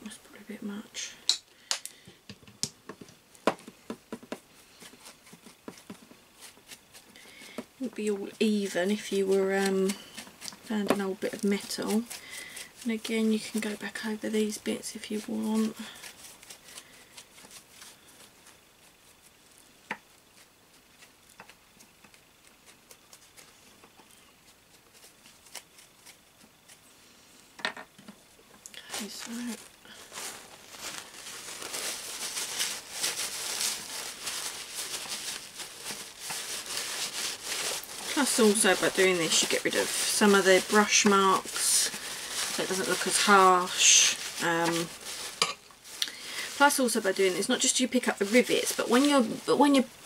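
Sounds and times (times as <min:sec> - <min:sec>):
foam brush tapping foil: 0:02.6 - 0:26.9, 0:28.8 - 0:50.0
handling paper mache form: 0:02.9 - 0:26.9, 0:28.8 - 0:50.0
tissue rustling and dabbing: 0:03.0 - 0:27.1, 0:28.2 - 0:50.0.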